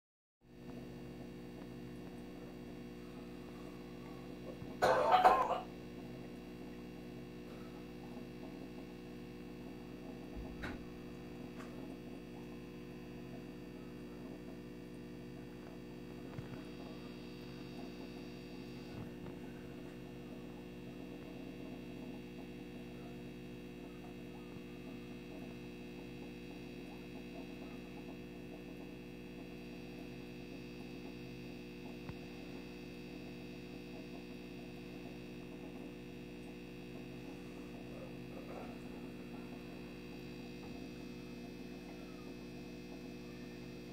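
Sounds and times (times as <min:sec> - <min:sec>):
low electrical hum: 0:00.5 - 0:43.9.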